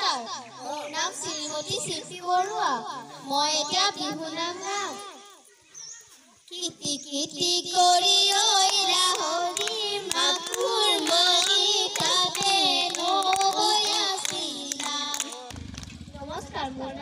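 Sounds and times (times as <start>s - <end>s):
girl singing into microphone: 0.0s - 5.1s, 6.5s - 15.5s.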